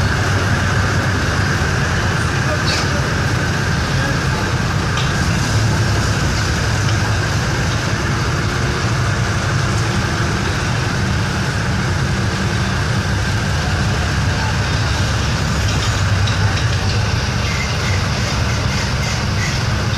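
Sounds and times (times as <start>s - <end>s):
armoured car engine running: 0.0s - 19.9s.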